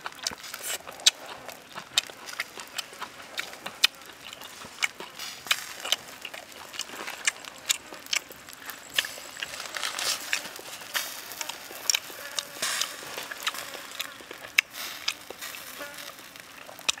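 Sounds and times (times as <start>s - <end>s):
fire crackling and popping: 0.0s - 17.0s
food sizzling on grill: 0.0s - 17.0s.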